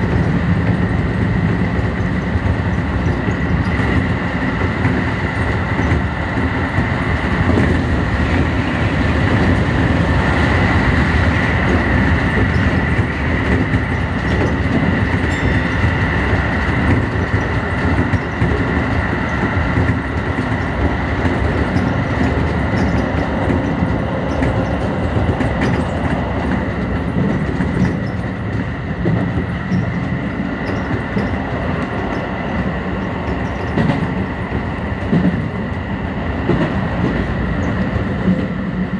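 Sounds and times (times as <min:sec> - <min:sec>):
clatter of clicks over track: 0:00.0 - 0:35.6, 0:36.4 - 0:38.5
train wheels rumbling on rails: 0:00.0 - 0:38.9.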